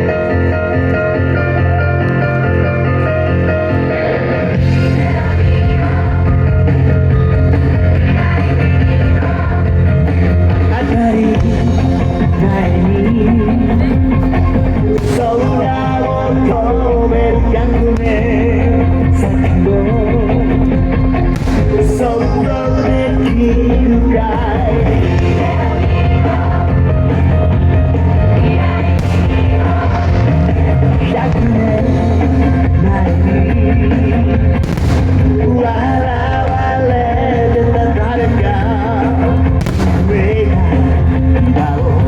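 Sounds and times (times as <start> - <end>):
song with vocals and band: 0.0 - 42.0.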